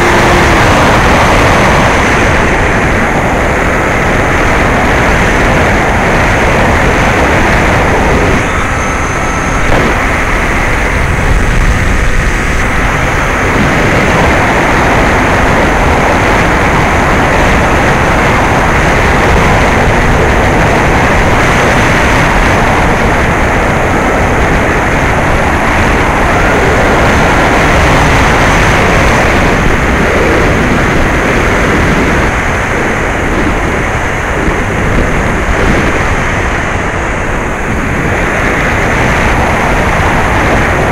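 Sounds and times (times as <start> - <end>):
faint high whine: 0.0 - 40.9
wind and propeller rush: 0.0 - 40.9.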